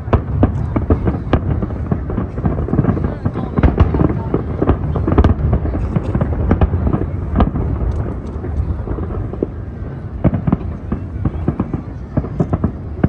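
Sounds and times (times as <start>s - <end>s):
fireworks booms and cracks: 0.0s - 13.0s.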